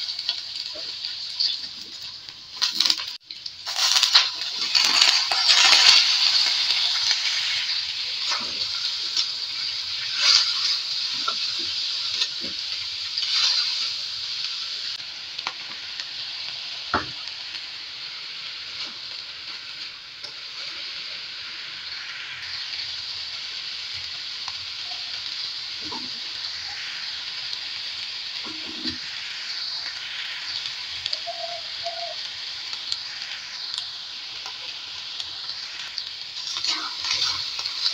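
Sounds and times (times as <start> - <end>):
vegetables sizzling in wok: 0.0 - 37.9.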